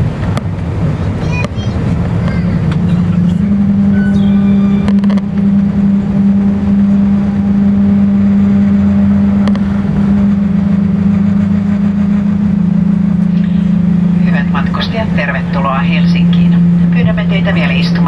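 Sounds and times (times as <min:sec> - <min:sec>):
aircraft cabin drone: 0:00.0 - 0:18.0.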